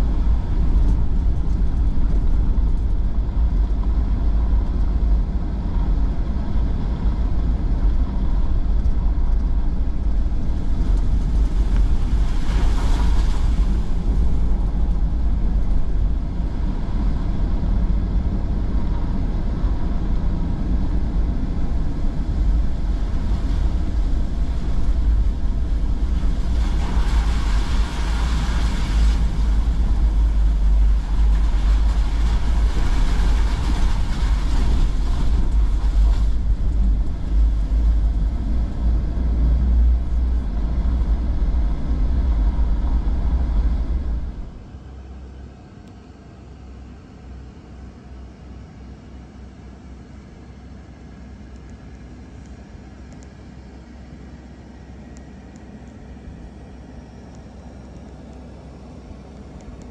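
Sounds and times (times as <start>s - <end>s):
truck engine and tyres rumbling: 0.0s - 59.9s.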